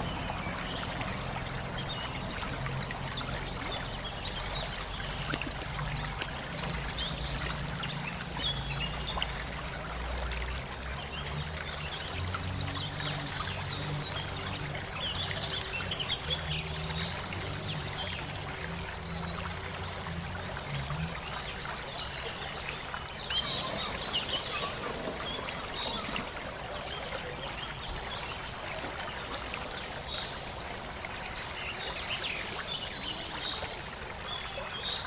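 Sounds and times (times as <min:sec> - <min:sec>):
stream flowing over rocks: 0:00.0 - 0:35.0.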